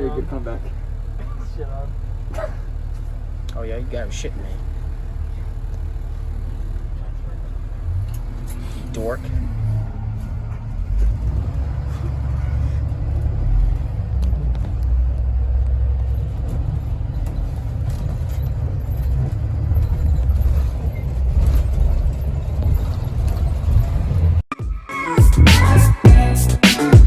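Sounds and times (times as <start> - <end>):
train rumbling past: 0.0 - 24.4.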